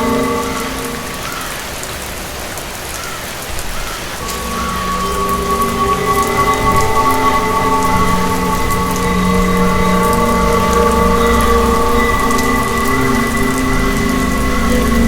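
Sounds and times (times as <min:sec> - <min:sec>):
eerie drone of held tones: 0:00.0 - 0:02.0, 0:04.2 - 0:15.0
steady rain: 0:00.0 - 0:15.0.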